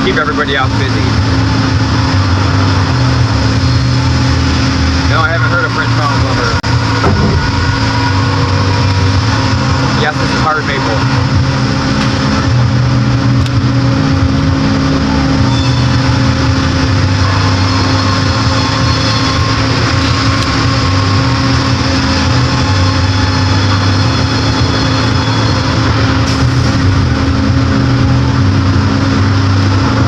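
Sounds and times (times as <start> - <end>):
band saw machine drone: 0.0 - 30.0.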